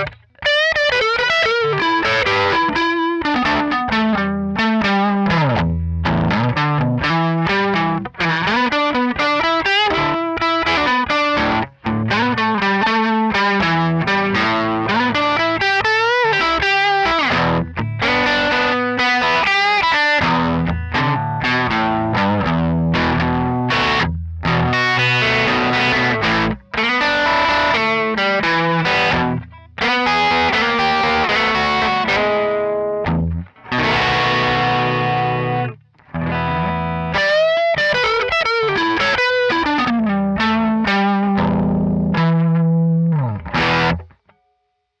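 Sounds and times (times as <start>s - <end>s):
distorted electric guitar: 0.0s - 44.4s.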